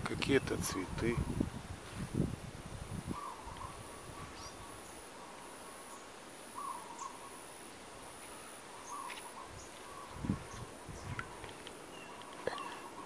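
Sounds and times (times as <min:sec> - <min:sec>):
insect buzz: 0:01.2 - 0:13.0.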